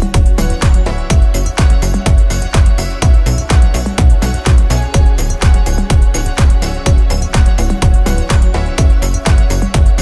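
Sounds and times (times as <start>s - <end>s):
kick drum: 0.0s - 10.0s.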